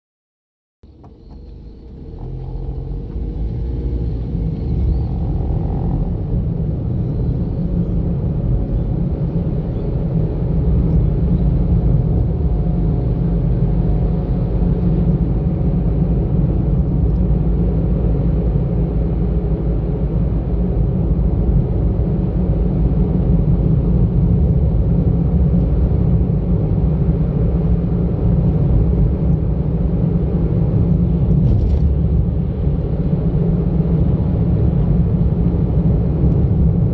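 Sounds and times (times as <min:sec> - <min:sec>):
car engine and road rumble: 0:00.8 - 0:36.9.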